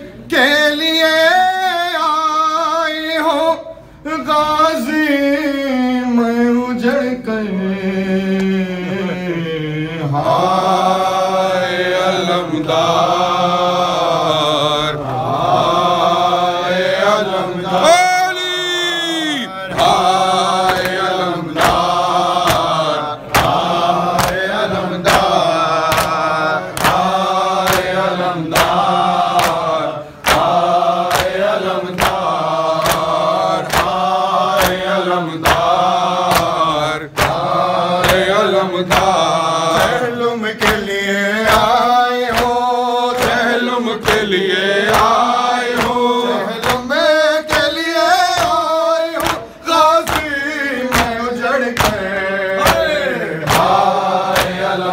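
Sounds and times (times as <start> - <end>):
men chanting a lament: 0.0 - 54.9.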